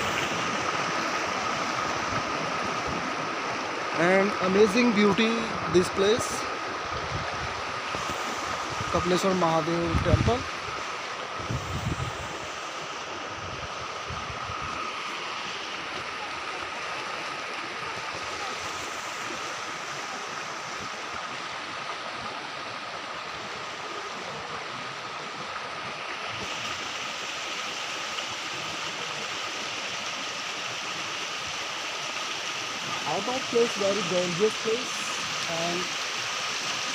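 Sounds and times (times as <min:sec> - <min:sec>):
river water rushing: 0:00.0 - 0:36.9.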